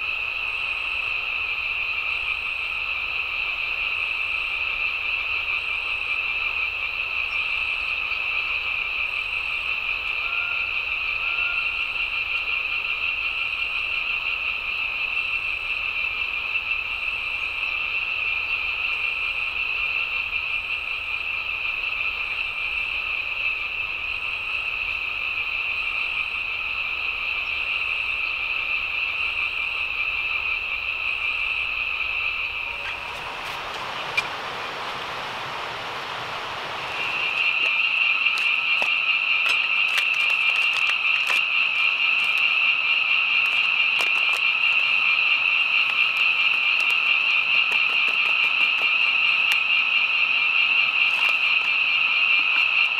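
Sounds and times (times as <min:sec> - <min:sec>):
frogs chorus: 0:00.0 - 0:52.9.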